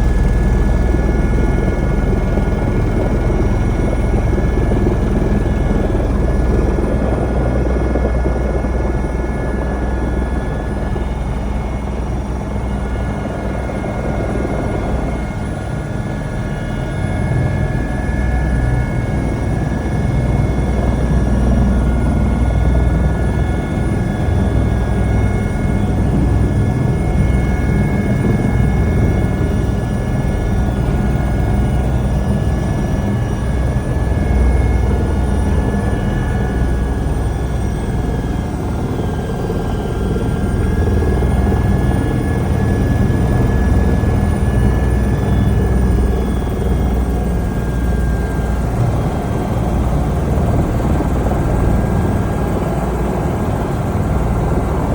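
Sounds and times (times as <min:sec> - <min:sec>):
helicopter rotor and engine rumble: 0:00.0 - 0:54.9.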